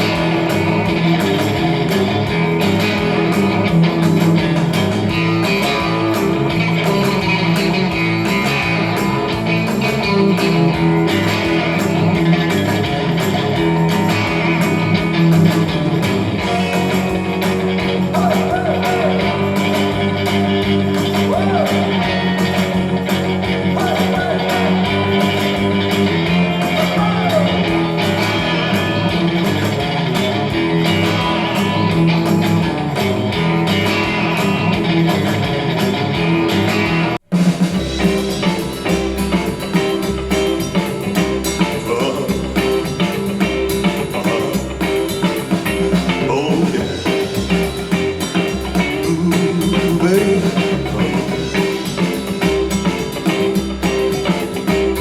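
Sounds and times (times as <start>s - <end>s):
music with pulsing bass beat: 0.0s - 55.0s
song with guitar and drums: 0.0s - 55.0s.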